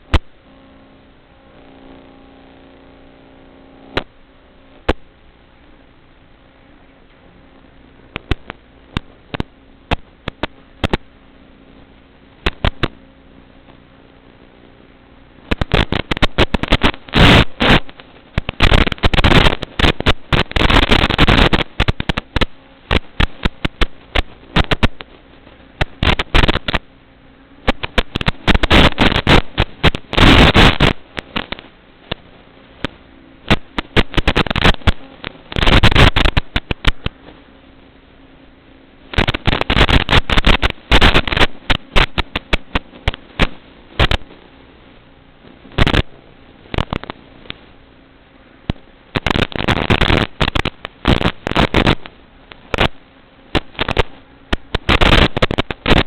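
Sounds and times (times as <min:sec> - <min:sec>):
crackling static bursts: 0:00.0 - 0:56.0
faint steady hum: 0:00.0 - 0:56.0.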